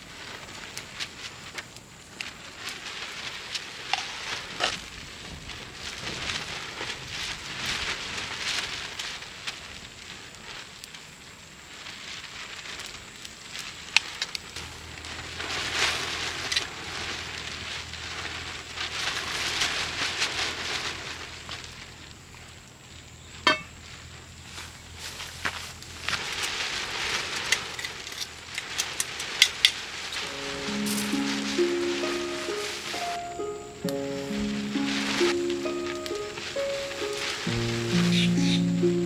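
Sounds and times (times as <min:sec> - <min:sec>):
campfire crackling and hissing: 0:00.0 - 0:39.0
fire popping: 0:00.3 - 0:39.0.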